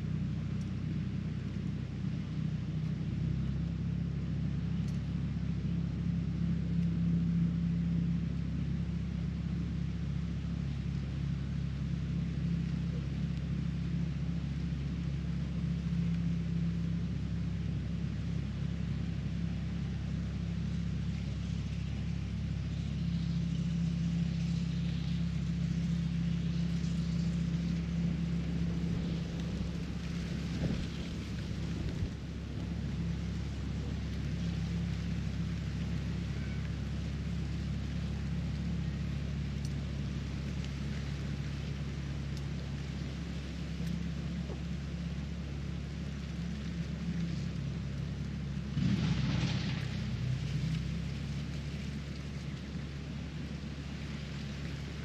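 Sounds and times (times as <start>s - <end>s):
low mechanical drone: 0.0s - 55.0s.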